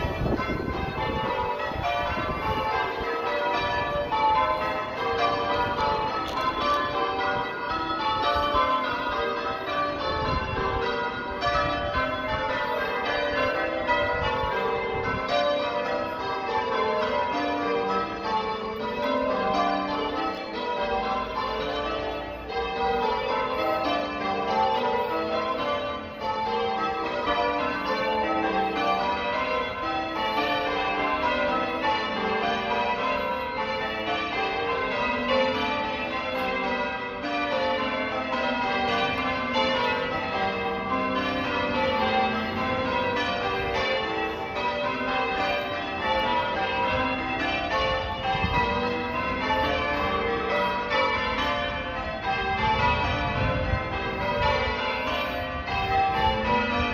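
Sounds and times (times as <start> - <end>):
church bells ringing: 0.0 - 56.9.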